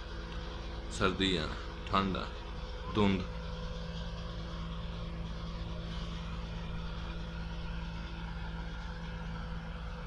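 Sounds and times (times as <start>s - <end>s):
low hum of distant engines: 0.0s - 10.0s.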